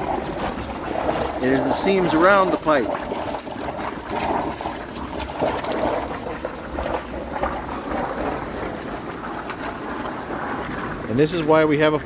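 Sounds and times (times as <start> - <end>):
rainwater pouring through leaks: 0.0 - 12.0.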